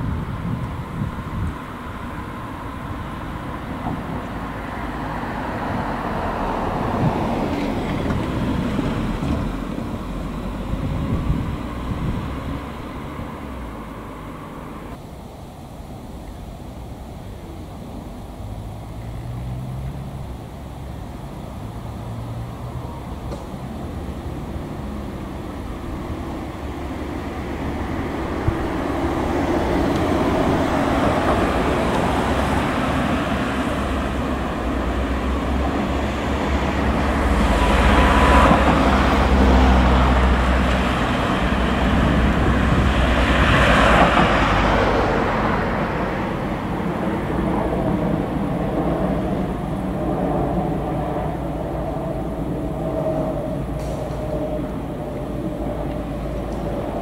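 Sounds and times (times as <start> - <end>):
cars driving past: 0.0 - 15.2, 16.0 - 57.0
steady traffic rumble: 0.0 - 57.0.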